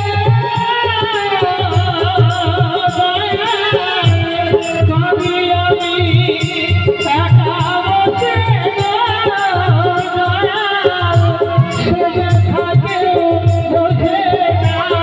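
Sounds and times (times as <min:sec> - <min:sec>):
electronic keyboard: 0:00.0 - 0:15.0
man singing amplified: 0:00.0 - 0:15.0.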